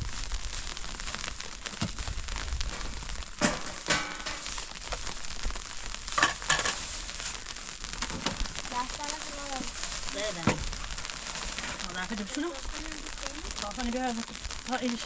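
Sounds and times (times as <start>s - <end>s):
crackling noise of small clicks: 0.0s - 15.0s.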